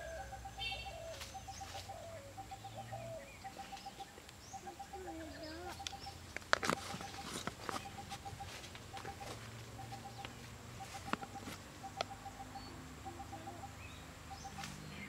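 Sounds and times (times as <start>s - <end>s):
birds calling short notes: 0.0s - 15.0s
low wavering bird calls: 0.0s - 15.0s.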